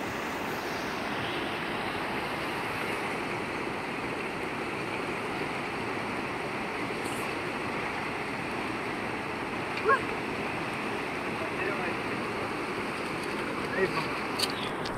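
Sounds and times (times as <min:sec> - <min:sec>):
river rapids rushing over boulders: 0:00.0 - 0:14.9.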